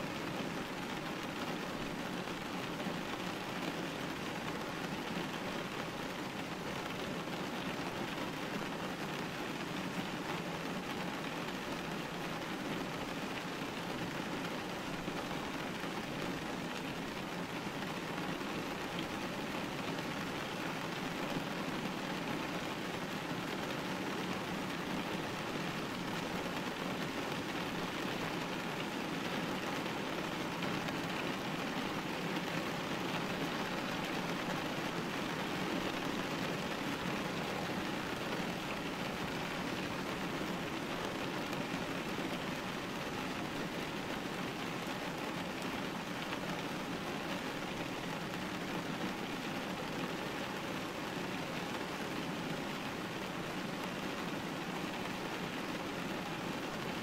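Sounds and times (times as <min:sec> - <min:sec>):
rain pattering on window: 0:00.0 - 0:57.0.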